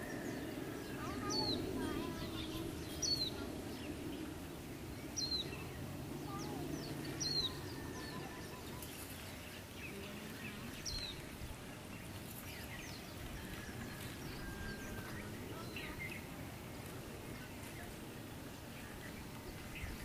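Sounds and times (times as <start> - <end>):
bird chirps: 0.0 - 20.0.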